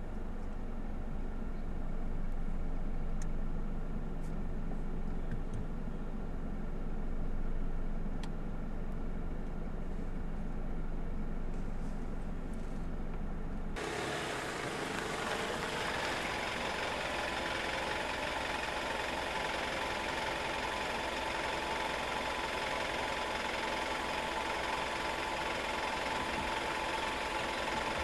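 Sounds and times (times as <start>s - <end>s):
car engine idling outside: 0.0s - 28.0s
engine hum inside cabin: 0.0s - 28.0s.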